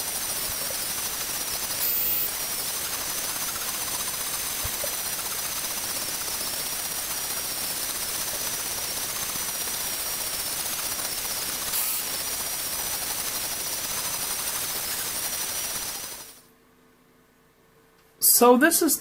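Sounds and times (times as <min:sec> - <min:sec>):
cnc spindle high whine: 0:00.0 - 0:16.4.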